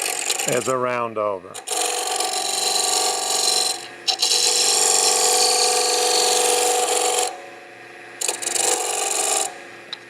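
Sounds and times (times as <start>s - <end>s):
chisel rasping on spinning wood: 0.0s - 1.0s, 1.6s - 7.4s, 8.2s - 9.5s
wood lathe humming: 0.0s - 9.7s.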